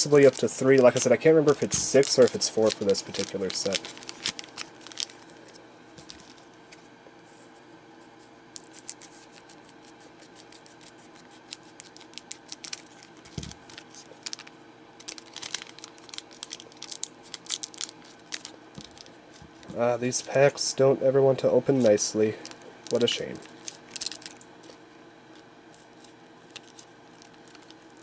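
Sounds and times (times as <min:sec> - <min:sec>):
foil wrapper crinkling: 0:00.0 - 0:06.5, 0:08.5 - 0:20.4, 0:21.7 - 0:28.0.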